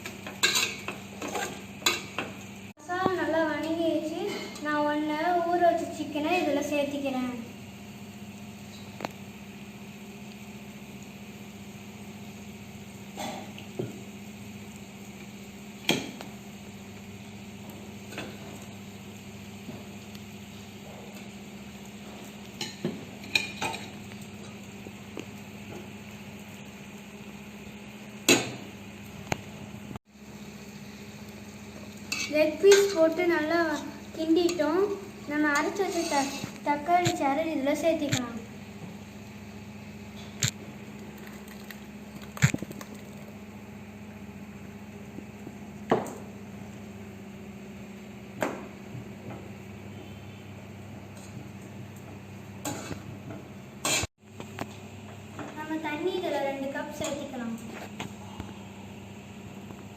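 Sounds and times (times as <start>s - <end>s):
oil sizzling in a pot: 0.0s - 57.6s
steady low hum: 0.0s - 59.9s.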